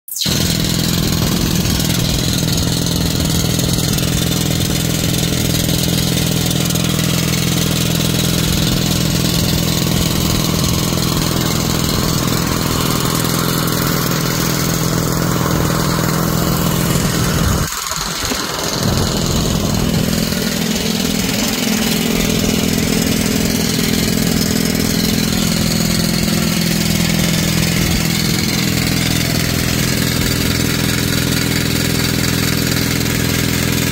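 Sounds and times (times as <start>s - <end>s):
pneumatic rock drill rig: 0.2s - 33.9s.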